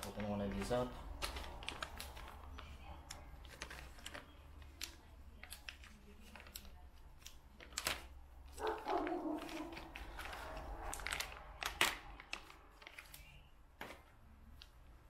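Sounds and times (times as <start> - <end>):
plastic bag crackle: 0.0 - 14.0
plastic bag crinkling: 0.0 - 14.6.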